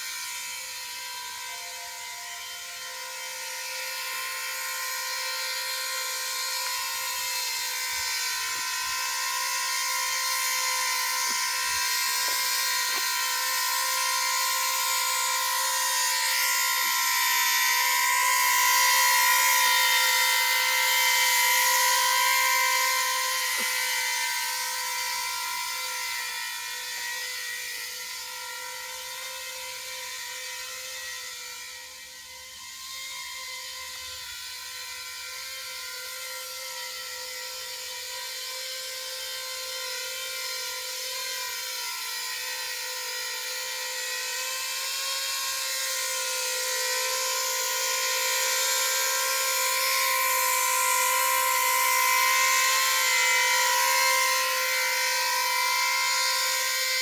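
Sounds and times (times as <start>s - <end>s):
electric copter rotors whining: 0.0s - 57.0s.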